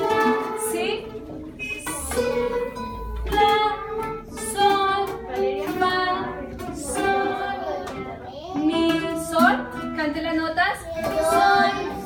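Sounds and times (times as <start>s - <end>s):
acoustic guitars strumming: 0.0s - 12.0s
young children singing: 0.0s - 12.0s.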